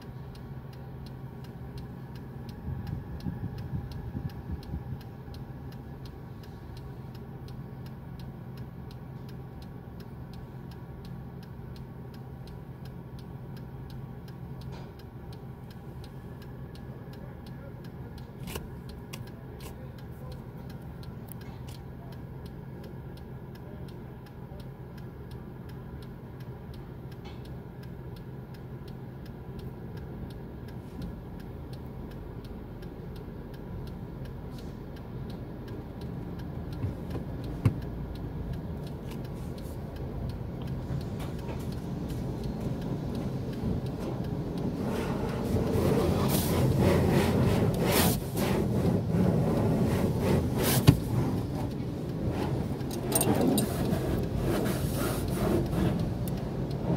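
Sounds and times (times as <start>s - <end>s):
car wash machinery hum: 0.0s - 56.9s
rapid regular ticking: 0.0s - 56.9s.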